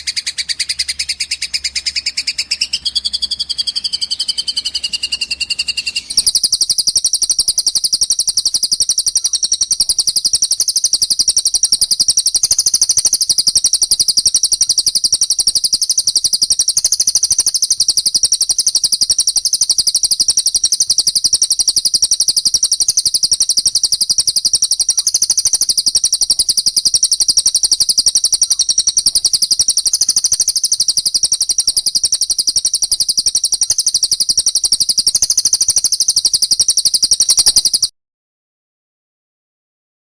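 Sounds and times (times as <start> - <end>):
songbird high-pitched chirps: 0.0 - 37.9.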